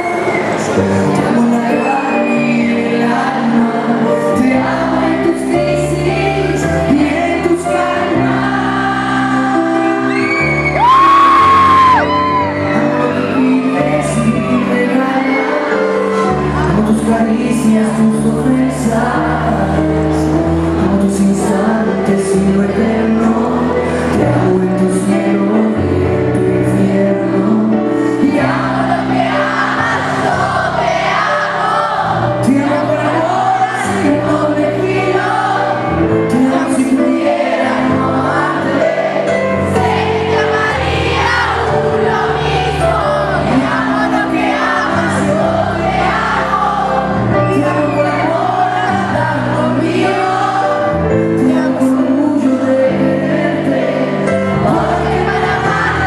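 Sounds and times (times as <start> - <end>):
man singing into microphone: 0.0 - 10.2, 10.8 - 29.7, 32.2 - 41.6, 42.8 - 56.0
piano accompaniment: 0.0 - 56.0.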